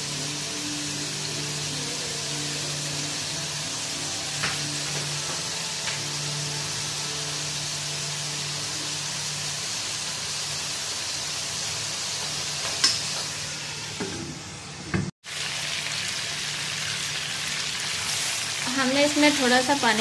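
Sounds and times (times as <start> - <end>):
chicken sizzling in oil: 0.0 - 14.1, 15.2 - 20.0.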